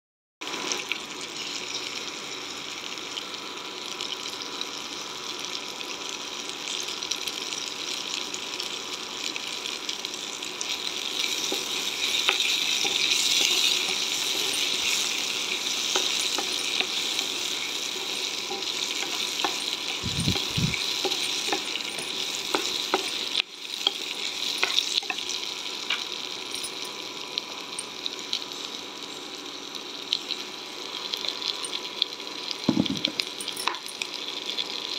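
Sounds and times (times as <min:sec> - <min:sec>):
chillies sizzling in hot oil: 0:00.4 - 0:34.9.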